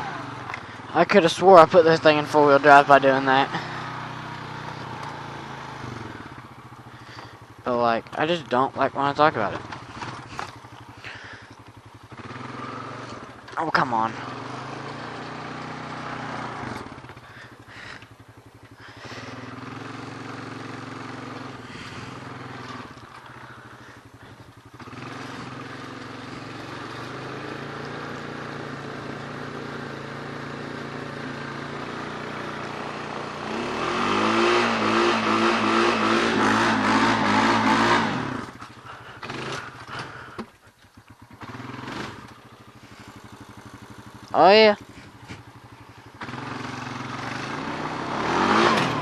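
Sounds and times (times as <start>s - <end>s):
riding lawn mower engine: 0.0s - 49.0s.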